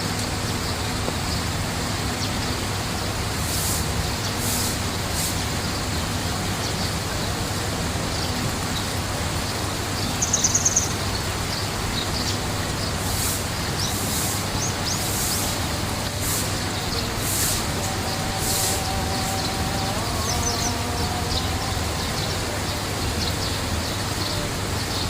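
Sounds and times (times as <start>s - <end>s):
small birds chirping: 0.0s - 25.0s
steady rushing noise: 0.0s - 25.0s.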